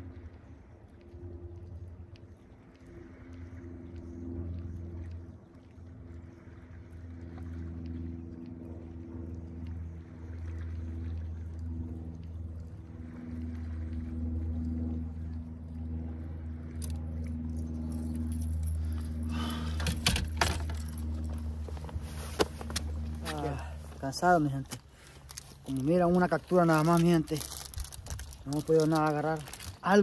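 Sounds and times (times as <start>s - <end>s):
outboard engine humming: 0.0s - 30.0s.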